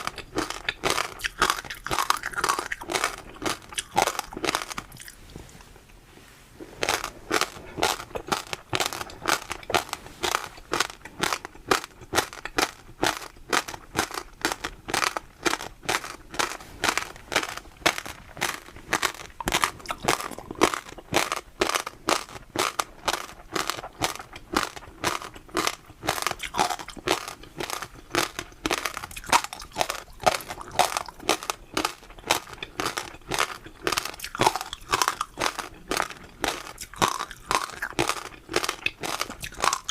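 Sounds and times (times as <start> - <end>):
chewing crunchy food: 0.0 - 6.0, 6.7 - 39.9.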